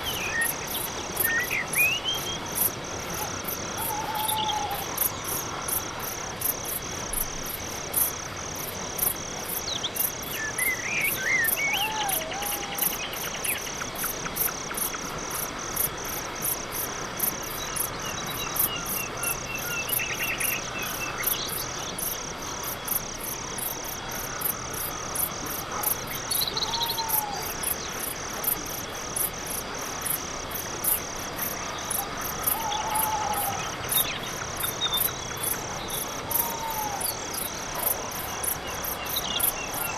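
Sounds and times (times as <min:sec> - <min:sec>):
crickets chirping: 0:00.0 - 0:39.9
night animal calls and trills: 0:00.0 - 0:39.9.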